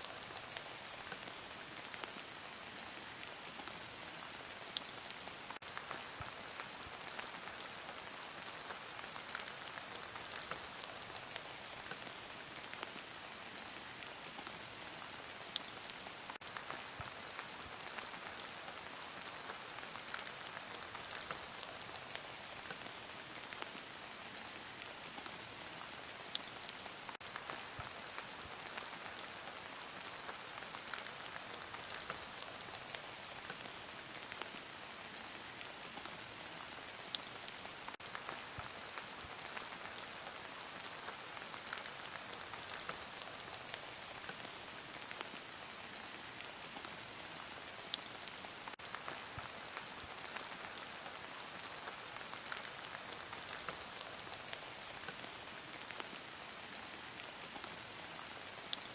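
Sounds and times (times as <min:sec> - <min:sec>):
heavy rain falling: 0:00.1 - 0:58.9
raindrops ticking on a surface: 0:00.1 - 0:58.9.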